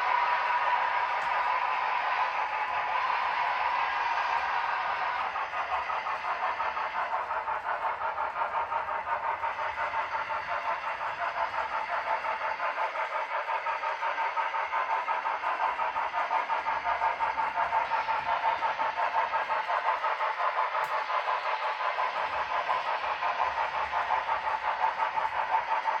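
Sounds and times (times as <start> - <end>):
model locomotive sound from small speaker: 0.0 - 26.0.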